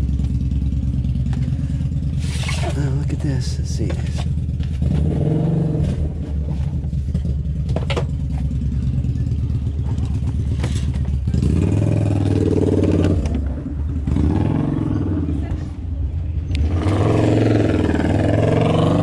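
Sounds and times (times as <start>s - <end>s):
van engine running: 0.0s - 19.0s.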